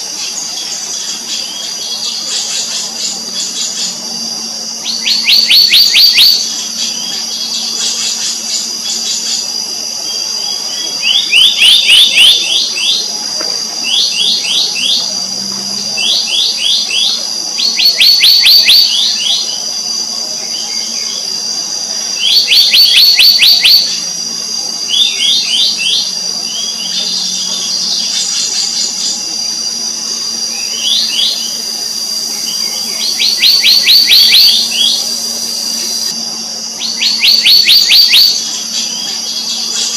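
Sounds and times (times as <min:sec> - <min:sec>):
birds calling with ringing notes: 0:00.0 - 0:13.2, 0:13.8 - 0:19.6, 0:20.4 - 0:39.9
faint low hum: 0:00.0 - 0:39.9
high-pitched whine: 0:00.0 - 0:39.9.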